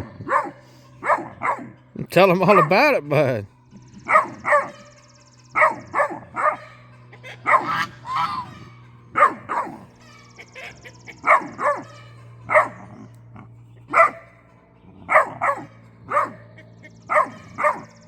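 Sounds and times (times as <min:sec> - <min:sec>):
puppy barking and yowling: 0:00.0 - 0:03.4, 0:04.0 - 0:18.0.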